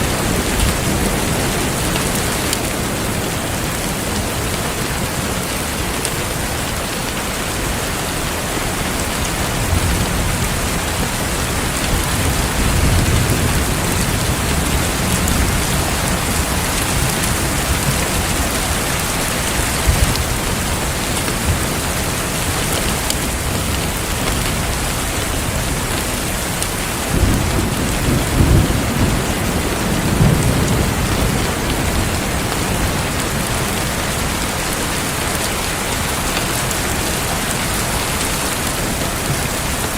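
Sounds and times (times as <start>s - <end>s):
heavy rain falling: 0.0s - 39.9s
thunder rumbling: 7.5s - 39.9s.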